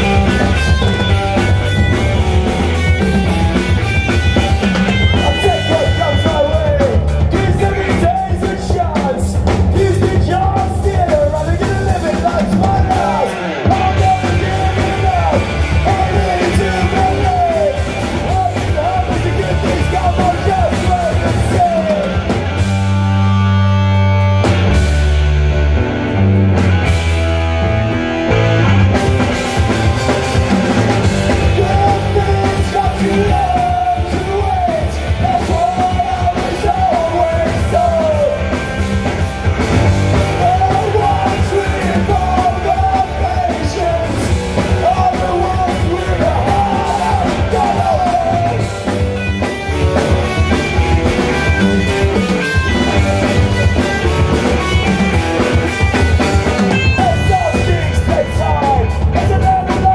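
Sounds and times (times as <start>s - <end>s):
bass guitar: 0.0s - 59.9s
distorted electric guitar: 0.0s - 59.9s
drum kit: 0.0s - 59.9s
shouted lead vocals: 0.0s - 59.9s.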